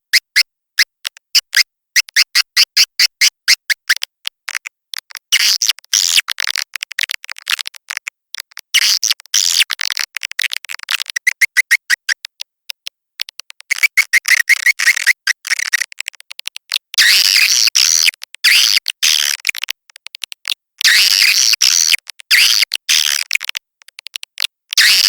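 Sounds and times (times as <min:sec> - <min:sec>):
swiftlet clicks and twittering chirps: 0:00.1 - 0:25.0.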